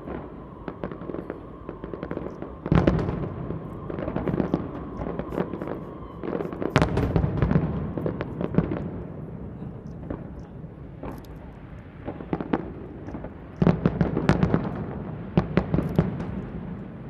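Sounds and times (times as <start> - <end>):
loud firework bangs: 0.0 - 11.1, 11.9 - 17.0
fireworks crackling and popping: 0.0 - 17.0.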